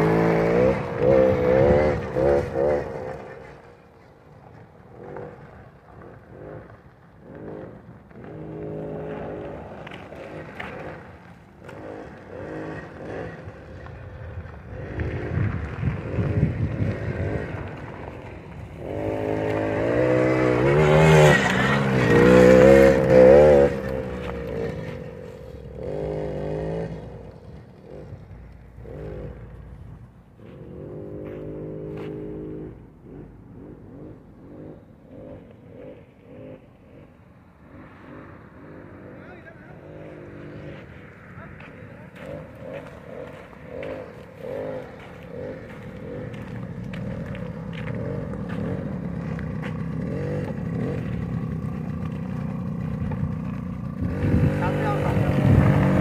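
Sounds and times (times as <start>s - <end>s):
two-stroke quad engine revving: 0.0s - 3.8s, 4.8s - 56.0s.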